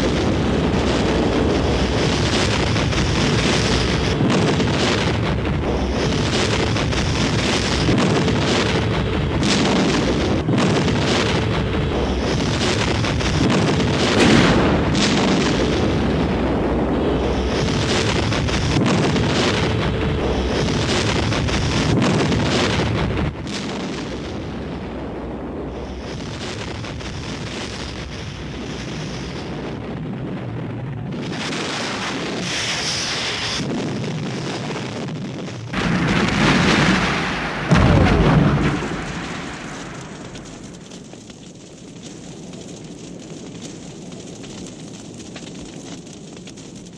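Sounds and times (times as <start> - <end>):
sharp cracks: 0.0 - 29.8, 30.4 - 46.9
explosions roaring and rumbling: 0.0 - 46.9.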